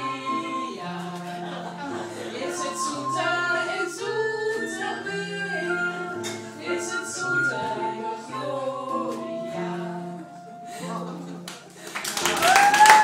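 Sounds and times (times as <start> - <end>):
women singing into microphone: 0.0 - 11.3
backing track music: 0.0 - 13.0.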